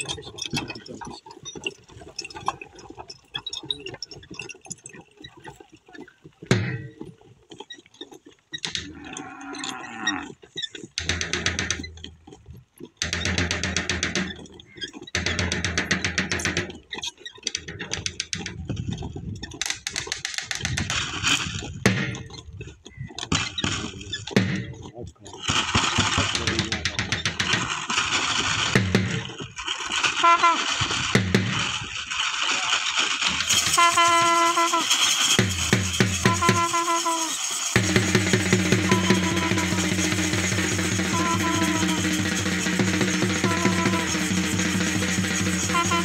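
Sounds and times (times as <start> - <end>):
hooves and rattling gear clicks: 0.0 - 46.0.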